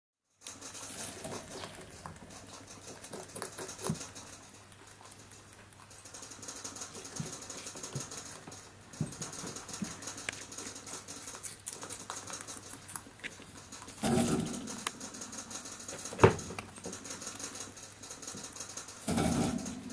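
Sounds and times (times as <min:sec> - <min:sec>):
rabbit crunching rind: 0:00.3 - 0:19.9.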